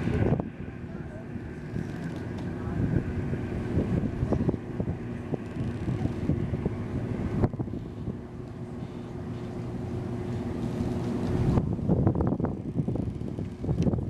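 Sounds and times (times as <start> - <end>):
low engine hum: 0.0 - 14.0
wind buffeting microphone: 0.0 - 14.0.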